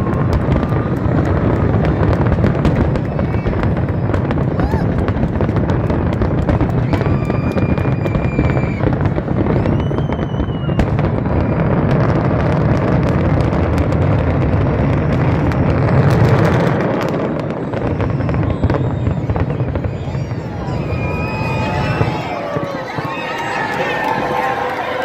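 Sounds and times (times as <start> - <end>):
firework whistles: 0.0 - 5.0, 5.8 - 24.8
firework shell bursts rumbling: 0.0 - 23.6
fireworks crackling and popping: 0.0 - 25.0.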